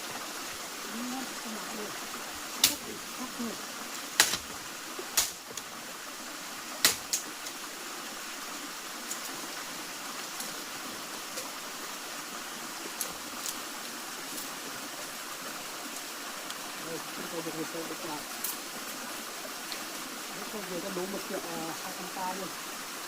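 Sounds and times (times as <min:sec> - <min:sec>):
flowing water: 0:00.0 - 0:23.0.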